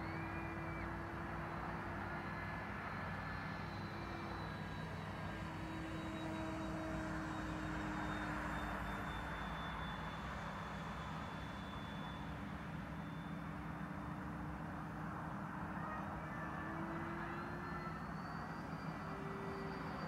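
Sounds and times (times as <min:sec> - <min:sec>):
electric ducted fan whine: 0:00.0 - 0:20.0.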